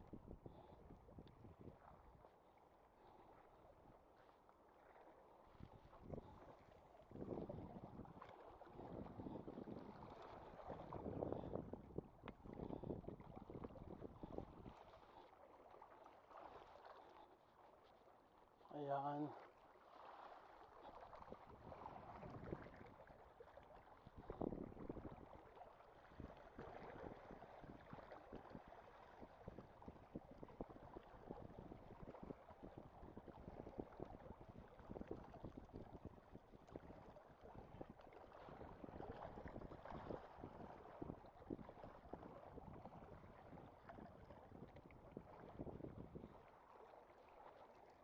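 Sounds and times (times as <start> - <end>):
small waves lapping on rocky shore: 0.1 - 48.0.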